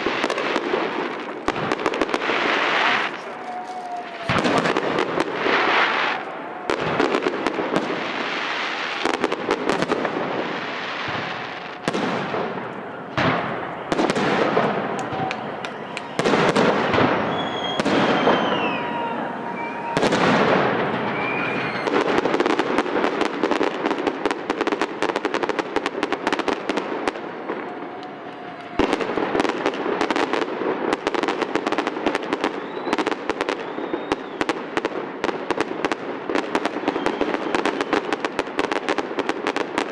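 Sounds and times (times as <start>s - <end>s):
fireworks bursting with loud bangs: 0.0s - 39.9s
fireworks crackling: 0.0s - 39.9s.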